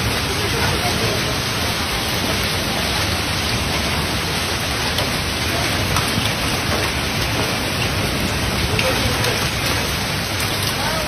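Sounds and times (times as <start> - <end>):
torrential rain and hail: 0.0 - 11.0.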